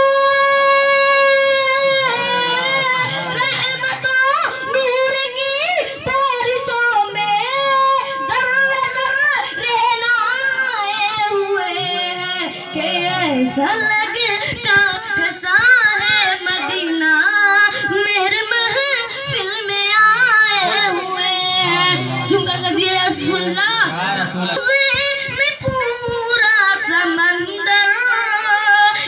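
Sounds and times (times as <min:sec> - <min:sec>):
boy singing into a microphone: 0:00.0 - 0:29.0.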